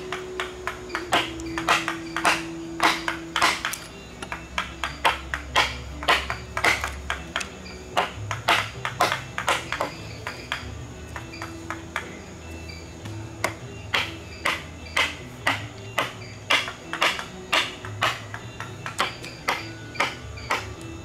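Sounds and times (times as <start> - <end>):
mallet knocking on chisel: 0.0 - 12.2, 13.4 - 20.9.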